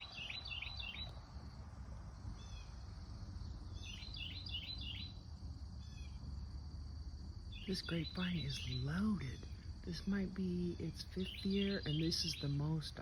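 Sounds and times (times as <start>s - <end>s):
low outdoor rumble: 0.0s - 13.0s
songbird singing: 0.0s - 13.0s.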